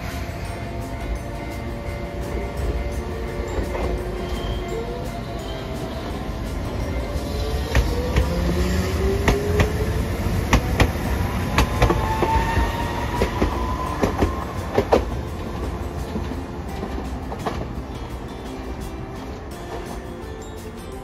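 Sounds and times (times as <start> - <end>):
tram motor whine: 0.0 - 20.9
wheels clacking over rail joints: 0.0 - 21.0.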